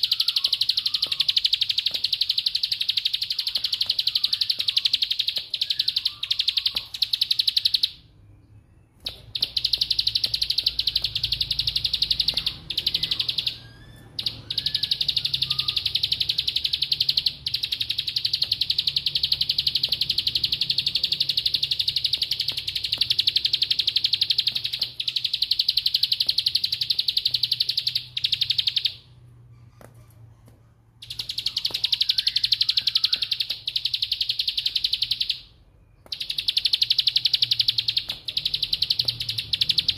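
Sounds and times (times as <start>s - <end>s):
bird rattling trill: 0.0s - 8.0s, 9.1s - 29.0s, 31.0s - 35.5s, 36.1s - 39.9s.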